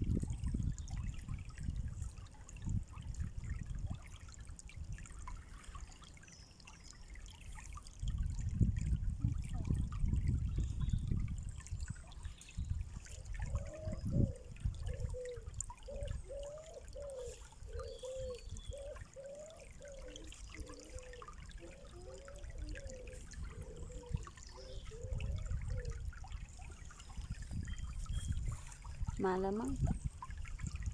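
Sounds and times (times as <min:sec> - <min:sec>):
water trickling: 0:00.0 - 0:30.9.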